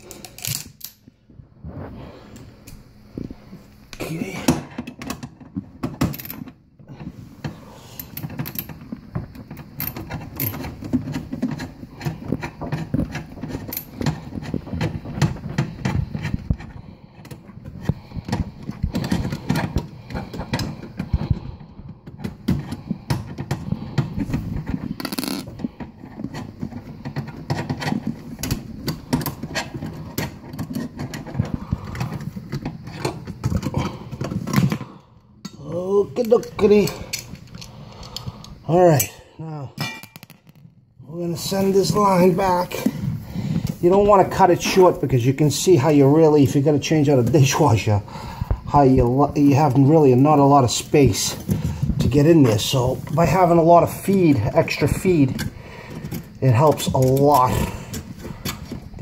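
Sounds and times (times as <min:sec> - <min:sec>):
knocks and rattles of tools: 0:00.0 - 0:01.2, 0:02.7 - 0:59.0.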